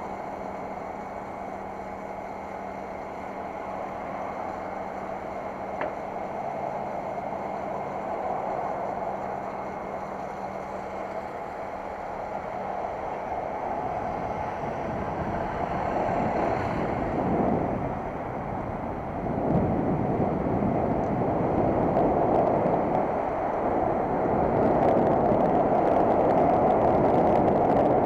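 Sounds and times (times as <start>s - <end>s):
city traffic noise: 0.0s - 28.0s
low engine hum: 0.0s - 28.0s
wind on microphone: 3.5s - 28.0s.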